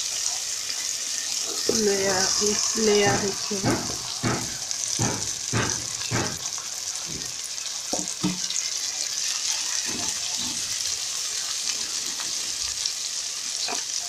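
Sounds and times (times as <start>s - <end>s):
beans sizzling in oil: 0.0s - 14.0s.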